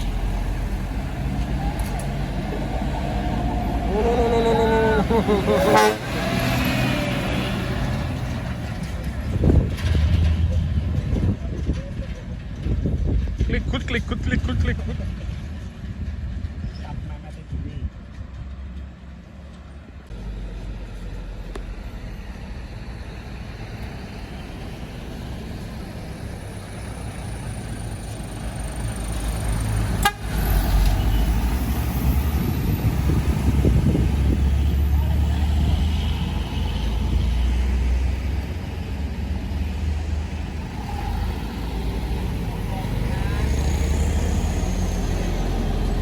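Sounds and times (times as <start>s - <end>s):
truck diesel engine pulling hard: 0.0s - 46.0s.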